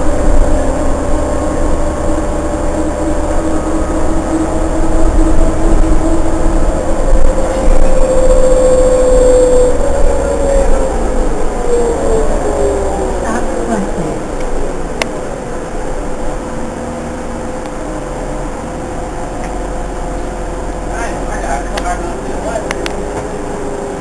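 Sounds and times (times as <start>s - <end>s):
bus engine low rumble: 0.0s - 24.0s
drivetrain whine: 0.0s - 24.0s.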